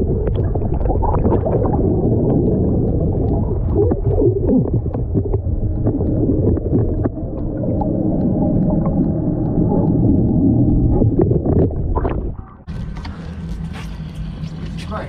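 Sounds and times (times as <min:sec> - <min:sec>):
low underwater rumble: 0:00.0 - 0:14.6
underwater clicks and crackles: 0:00.0 - 0:14.8.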